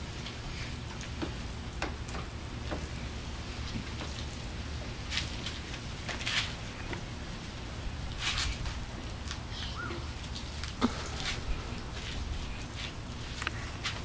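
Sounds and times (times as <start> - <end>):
steady low hum: 0.0 - 14.0
water dripping and splashing: 0.0 - 14.0.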